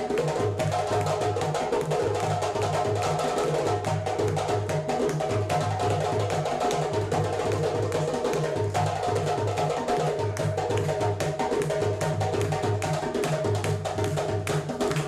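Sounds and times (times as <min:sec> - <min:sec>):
hand drums rhythm: 0:00.0 - 0:15.0.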